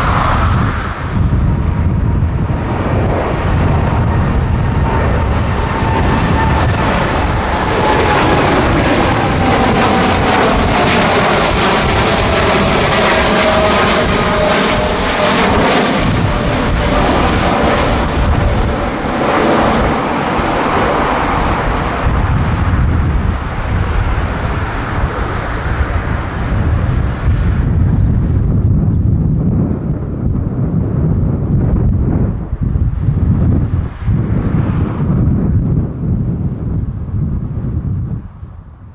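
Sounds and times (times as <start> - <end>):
jet engines at takeoff thrust: 0.0 - 38.9.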